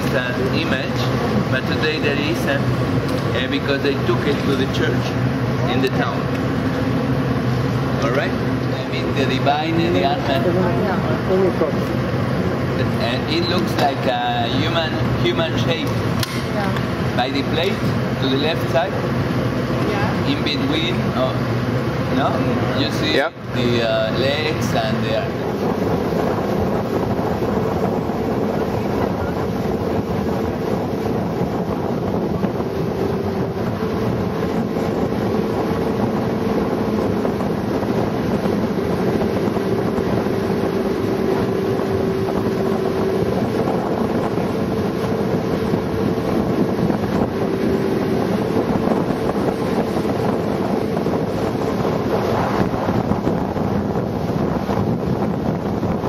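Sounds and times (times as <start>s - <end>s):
boat engine droning: 0.0s - 56.0s
wind buffeting microphone: 0.0s - 56.0s.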